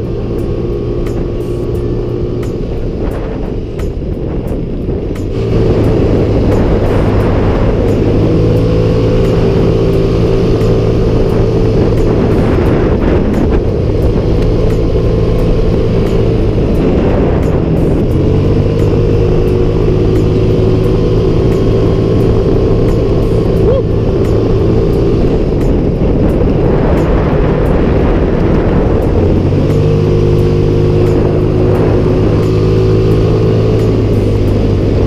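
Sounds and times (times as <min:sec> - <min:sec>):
motor scooter engine running: 0:00.0 - 0:35.0
wind on microphone: 0:00.0 - 0:35.0.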